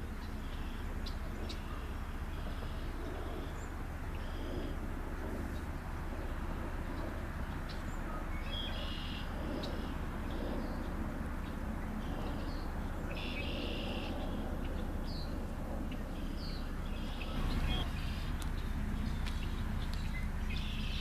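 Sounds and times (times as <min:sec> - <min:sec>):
low outdoor rumble: 0:00.0 - 0:21.0
songbirds chirping: 0:00.0 - 0:21.0.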